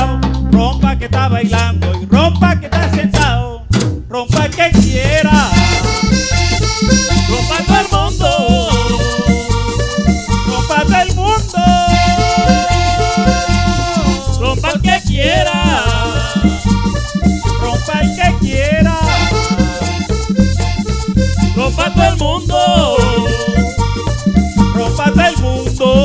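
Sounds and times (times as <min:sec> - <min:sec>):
bass line: 0:00.0 - 0:26.0
quick percussion: 0:00.0 - 0:26.0
sliding melody instrument: 0:05.0 - 0:26.0.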